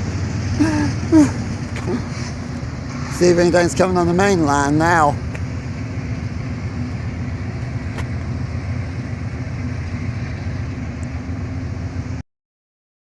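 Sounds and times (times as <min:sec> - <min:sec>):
car engine and road noise: 0:00.0 - 0:12.2.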